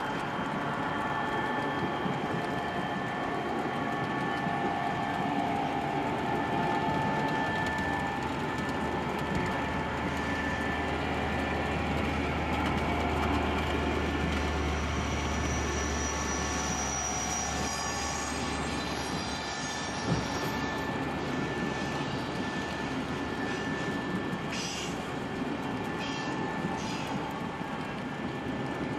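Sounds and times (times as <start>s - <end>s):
model train rolling: 0.0s - 28.9s.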